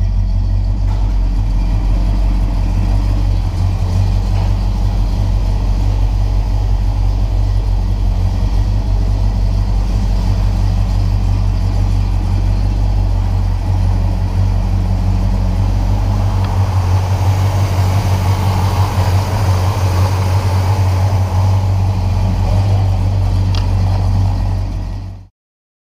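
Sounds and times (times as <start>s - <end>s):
car engine idling: 0.0s - 25.3s.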